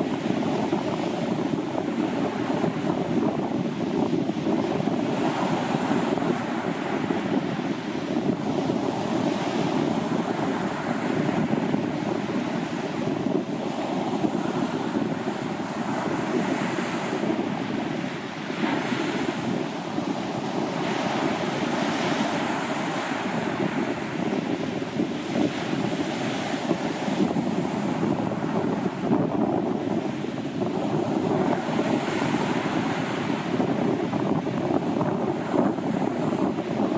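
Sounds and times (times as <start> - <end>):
waves breaking on beach: 0.0 - 36.9
wind buffeting microphone: 0.0 - 36.9.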